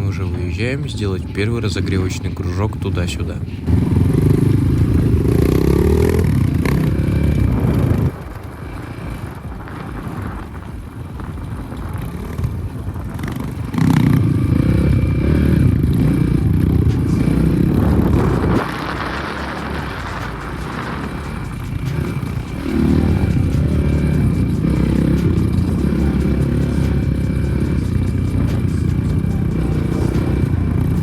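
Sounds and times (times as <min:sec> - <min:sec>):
motorcycle engine under throttle: 0:00.0 - 0:31.0.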